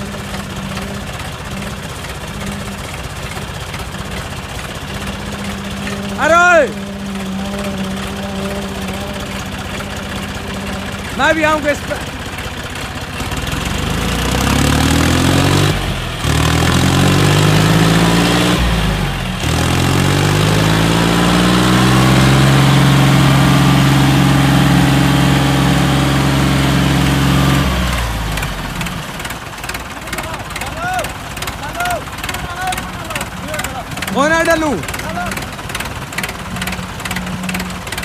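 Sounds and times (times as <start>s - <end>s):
tractor engines straining: 0.0s - 38.0s.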